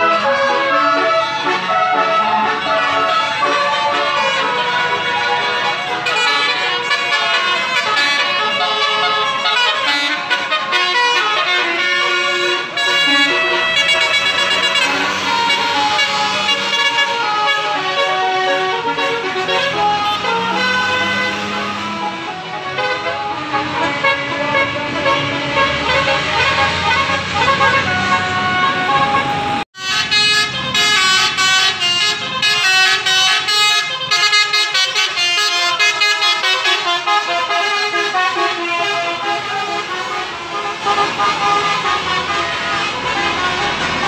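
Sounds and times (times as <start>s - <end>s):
musical vehicle air horns: 0.0s - 44.0s.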